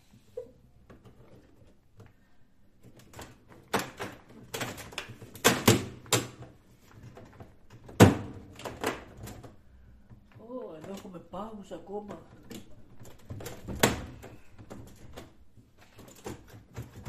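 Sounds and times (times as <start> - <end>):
plastic parts knocking and scraping: 0.8 - 17.0.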